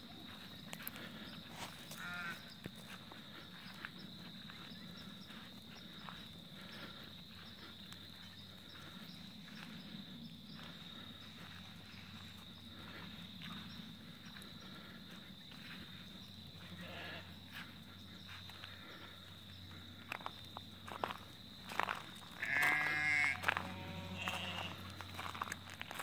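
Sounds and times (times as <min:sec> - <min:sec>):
footsteps on grass and gravel: 0:00.0 - 0:26.0
insects chirring: 0:00.0 - 0:26.0.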